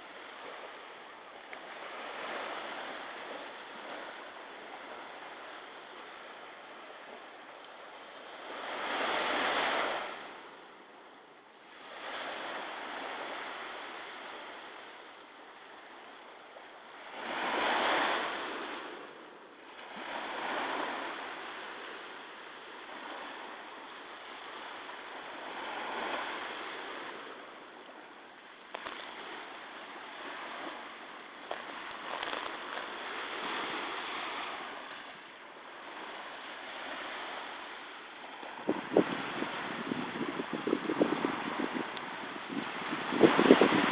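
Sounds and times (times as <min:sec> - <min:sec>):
ocean waves breaking: 0:00.0 - 0:43.9.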